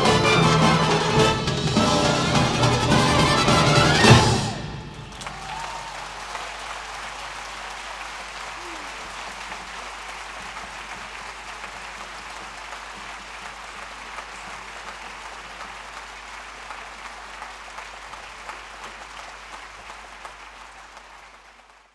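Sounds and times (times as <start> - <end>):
large audience applauding: 0.0 - 21.9.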